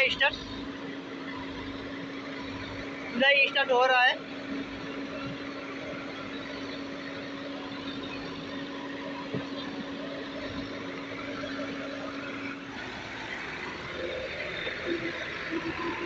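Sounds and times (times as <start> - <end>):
backhoe digging rock and mud: 0.0 - 16.0
diesel engine under load: 0.0 - 16.0.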